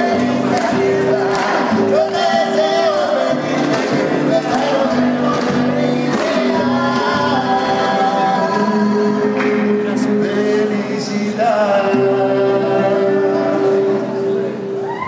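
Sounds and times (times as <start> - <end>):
voices singing with held notes: 0.0 - 14.8
musical accompaniment: 0.0 - 15.0.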